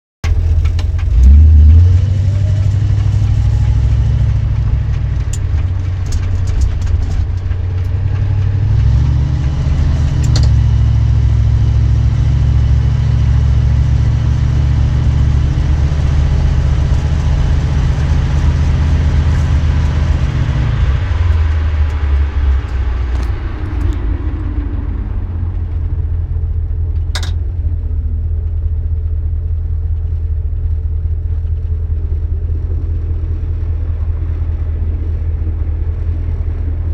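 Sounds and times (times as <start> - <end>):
car engine rumbling: 0.2 - 36.9.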